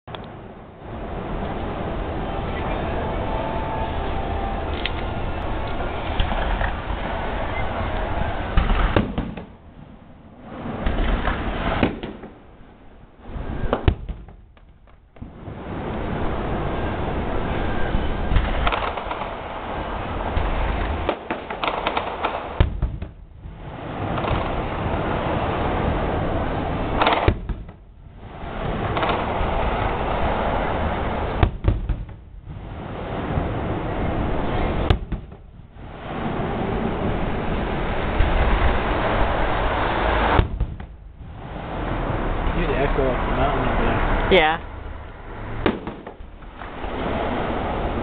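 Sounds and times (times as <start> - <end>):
low rumble: 0.1 - 48.0
steady rushing noise: 0.1 - 48.0
firework bangs: 4.8 - 43.3, 45.2 - 48.0.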